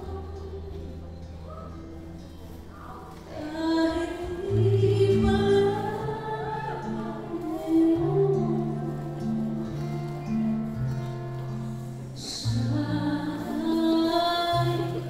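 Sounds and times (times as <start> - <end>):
person singing: 0.0 - 1.8, 2.8 - 10.7, 12.2 - 15.0
acoustic guitar: 0.0 - 15.0.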